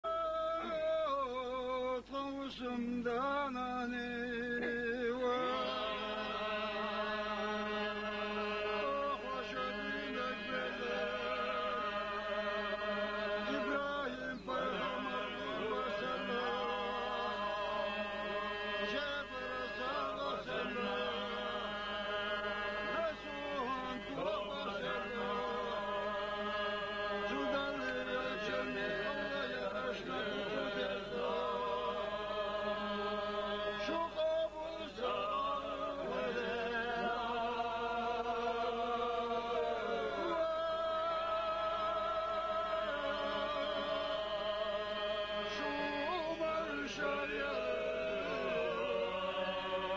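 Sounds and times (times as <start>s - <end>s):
men chanting: 2.4s - 49.9s.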